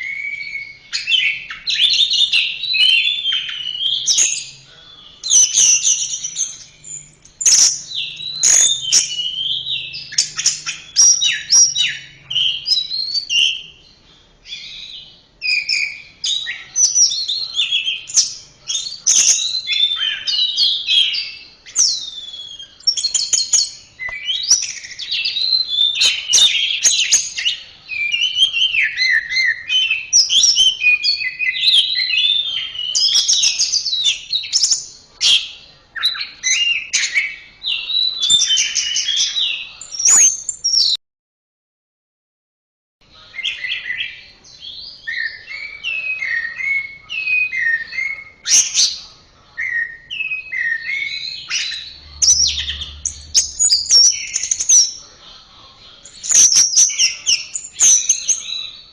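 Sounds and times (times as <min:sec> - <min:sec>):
thrush singing whistled phrases: 0:00.0 - 0:41.0, 0:43.3 - 0:55.1.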